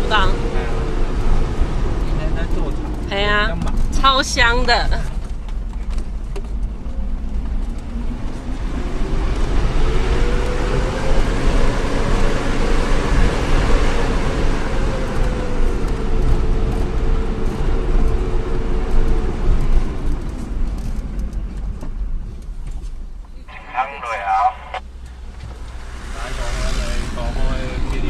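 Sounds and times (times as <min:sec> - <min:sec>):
road noise rumble: 0:00.0 - 0:28.0.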